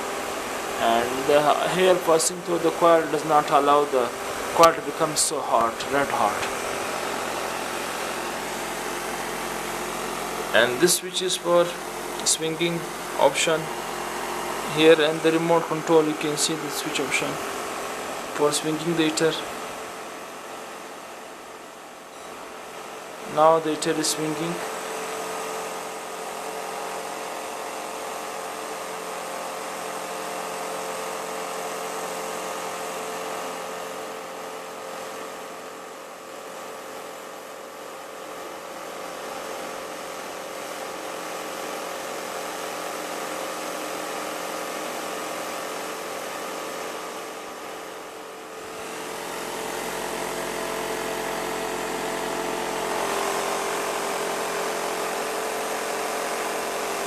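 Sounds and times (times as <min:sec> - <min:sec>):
fan heater whirring hum: 0:00.0 - 0:57.0.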